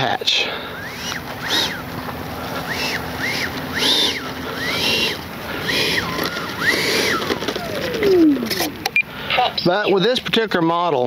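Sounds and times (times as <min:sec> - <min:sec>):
electric ducted fan whining: 0:00.0 - 0:11.0.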